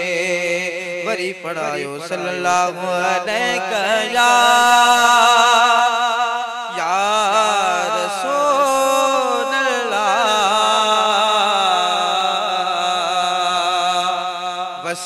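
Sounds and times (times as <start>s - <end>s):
man singing ornamented phrase: 0.0s - 5.8s, 6.7s - 15.0s.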